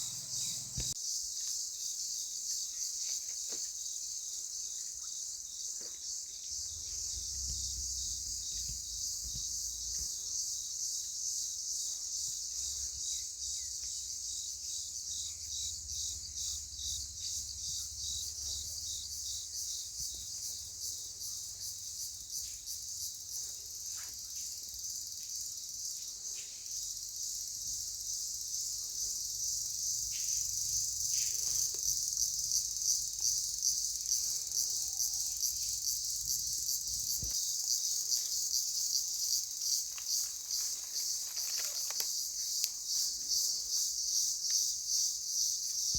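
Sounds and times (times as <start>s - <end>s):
crickets chirring: 0.0s - 45.9s.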